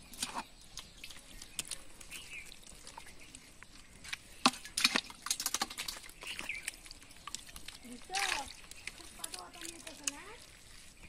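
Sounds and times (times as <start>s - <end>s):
bowl splashing mud and water: 0.0s - 11.0s
water dripping: 0.0s - 11.0s.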